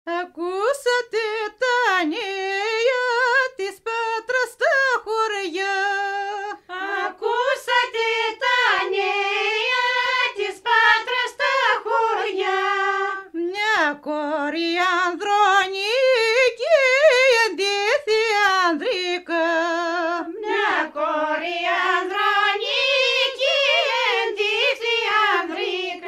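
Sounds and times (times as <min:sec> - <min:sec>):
woman singing unaccompanied: 0:00.1 - 0:26.0.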